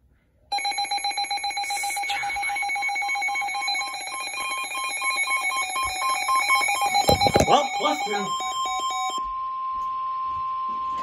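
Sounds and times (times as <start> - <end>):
two-tone electronic alarm: 0.5 - 11.0.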